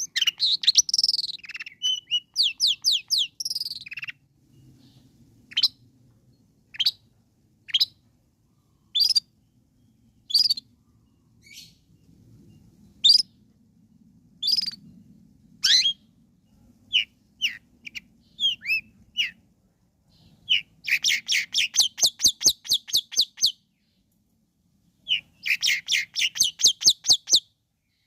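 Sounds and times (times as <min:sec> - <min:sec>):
bird chirps: 0:00.0 - 0:05.8, 0:06.7 - 0:13.4, 0:14.4 - 0:19.4, 0:20.0 - 0:24.1, 0:25.0 - 0:28.0.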